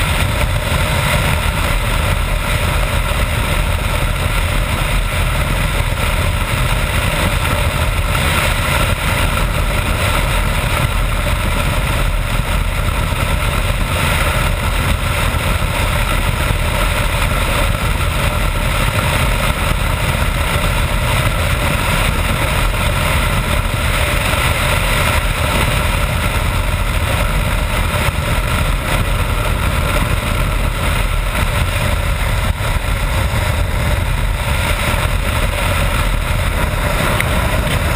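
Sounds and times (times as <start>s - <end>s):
motorcycle engine running: 0.0s - 37.9s
wind rushing on microphone: 0.0s - 37.9s.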